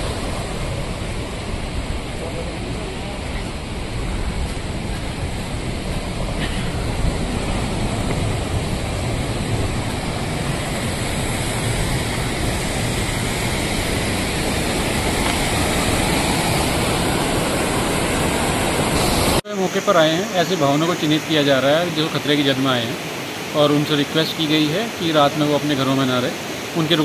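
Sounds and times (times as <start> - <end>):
rushing floodwater: 0.0 - 27.0.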